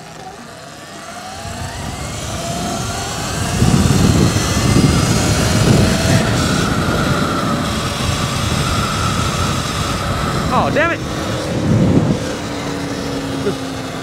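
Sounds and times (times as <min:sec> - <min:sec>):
electric bike motor whining: 0:00.0 - 0:14.0
wind buffeting microphone: 0:00.0 - 0:14.0.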